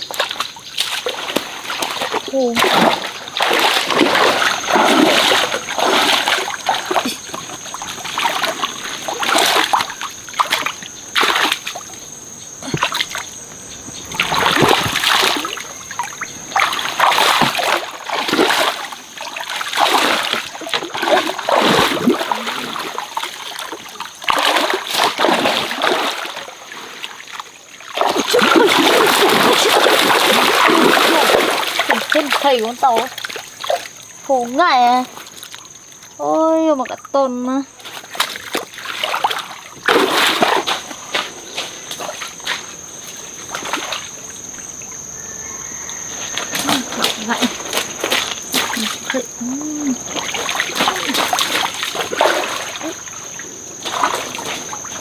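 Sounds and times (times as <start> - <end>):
water splashing: 0.0 - 45.0, 45.7 - 55.0.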